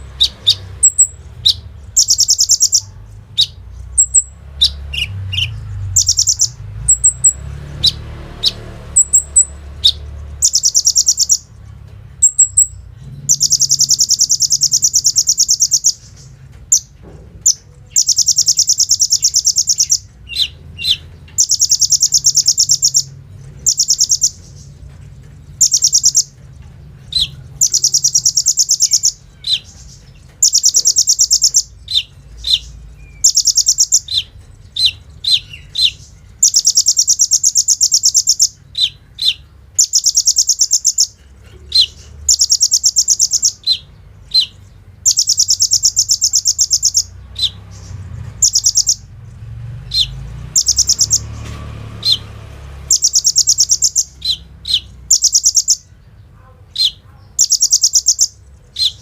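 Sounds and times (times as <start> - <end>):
sharp high bird chips: 0.0 - 24.8, 25.5 - 49.1, 49.9 - 56.0, 56.7 - 59.0
bird singing fast trills: 0.0 - 59.0.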